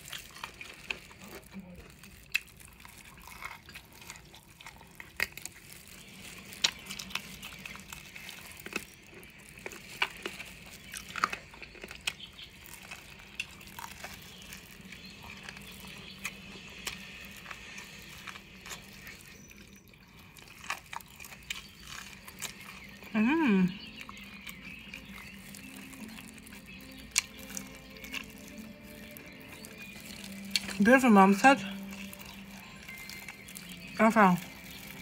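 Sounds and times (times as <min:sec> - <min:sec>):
person chewing crunchy chicken: 0:00.0 - 0:35.0.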